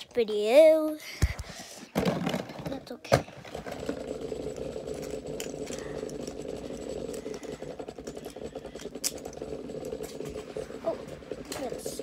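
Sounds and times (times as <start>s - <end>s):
spinning tops whirring: 2.0s - 12.0s.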